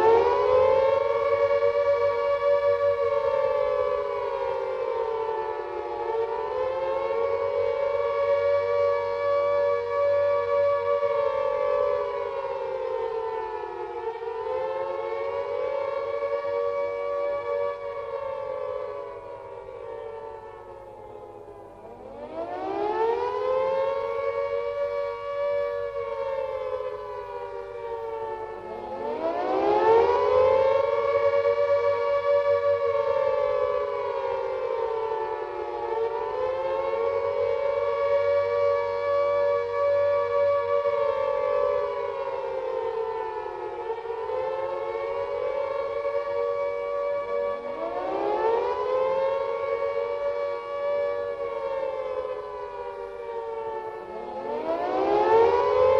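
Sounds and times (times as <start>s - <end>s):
air raid siren wailing: 0.0s - 55.9s.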